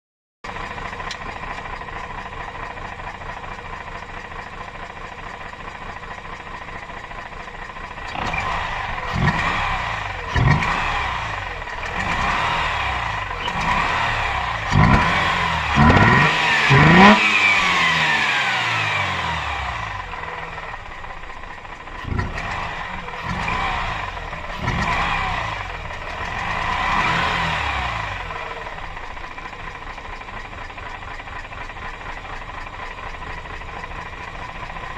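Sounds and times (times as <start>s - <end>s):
rotary engine idling and revving: 0.5s - 34.9s.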